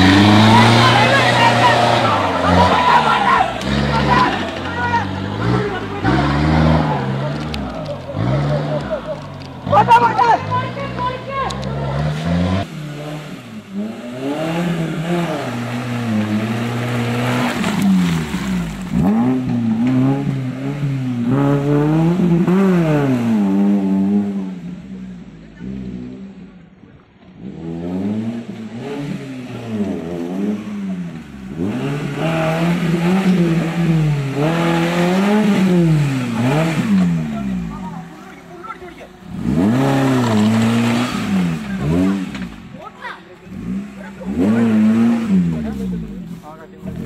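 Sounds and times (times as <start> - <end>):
engine revving hard: 0.0 - 24.6, 27.4 - 47.0.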